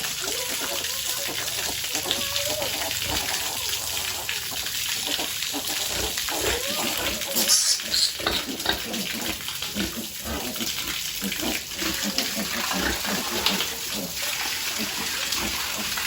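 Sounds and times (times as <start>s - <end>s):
piglets grunting: 0.0s - 16.0s
water running and splashing: 0.0s - 16.0s
piglet squealing: 0.2s - 15.7s.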